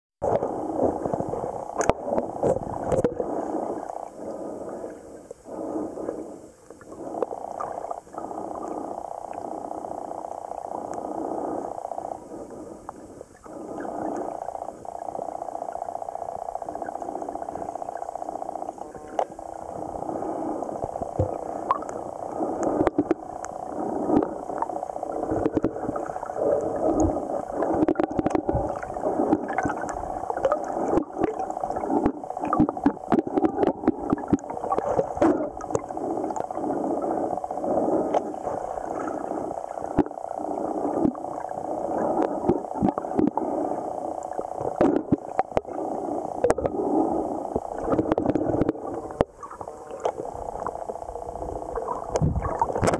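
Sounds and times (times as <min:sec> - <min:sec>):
underwater stream gurgling: 0:00.2 - 0:52.9.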